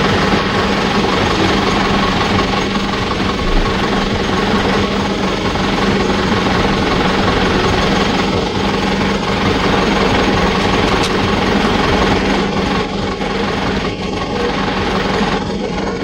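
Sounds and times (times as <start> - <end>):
mechanical drone: 0.0 - 16.0.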